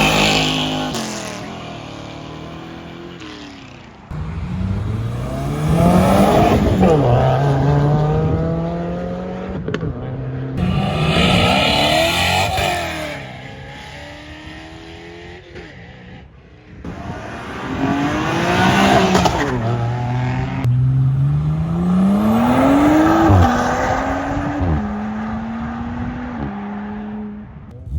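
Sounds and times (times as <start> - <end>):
car engines accelerating hard: 0.0 - 27.9.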